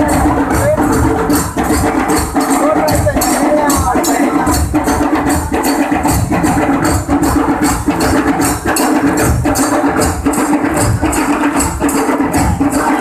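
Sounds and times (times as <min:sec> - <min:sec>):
drums beating: 0:00.0 - 0:13.0.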